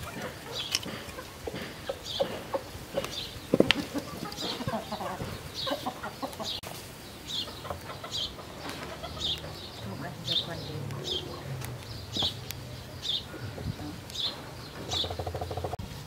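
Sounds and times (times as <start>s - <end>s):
small bird chirping: 0.0s - 15.8s
chickens clucking: 0.0s - 16.0s.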